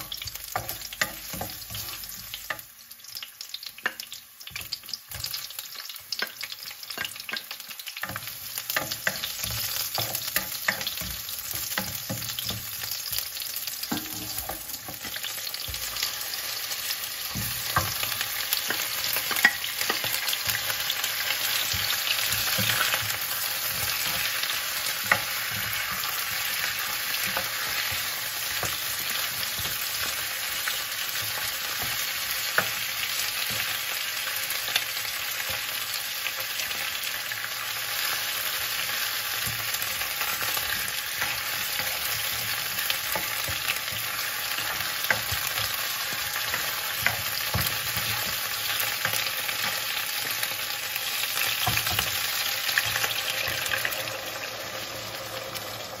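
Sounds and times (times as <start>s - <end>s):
chicken sizzling in wok: 0.0s - 56.0s.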